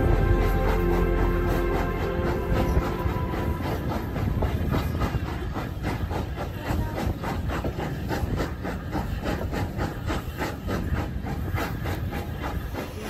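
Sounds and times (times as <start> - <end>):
low rumble of running train: 0.0 - 13.0
steam locomotive chuffing: 0.0 - 13.0.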